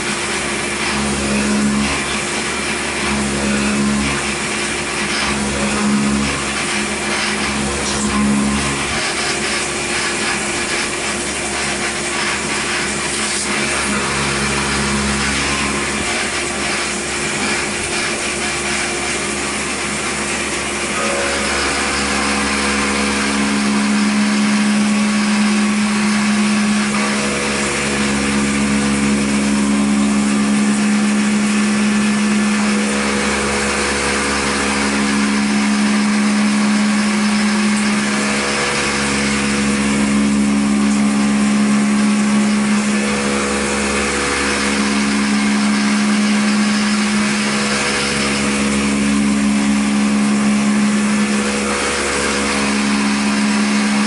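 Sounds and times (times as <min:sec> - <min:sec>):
milling machine drone: 0:00.0 - 0:54.0.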